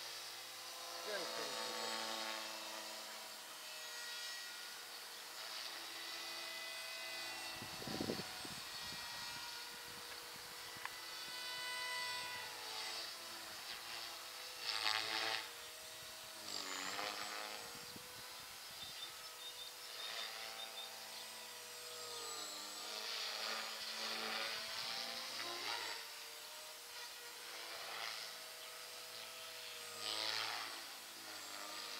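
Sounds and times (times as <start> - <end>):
rc helicopter motor whine: 0.0 - 31.9.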